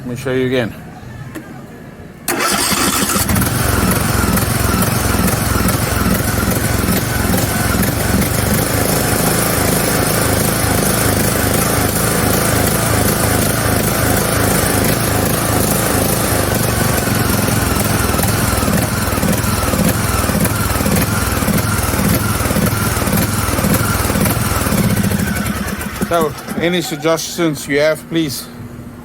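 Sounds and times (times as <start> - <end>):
lawn tractor engine pulsing: 2.3 - 28.3.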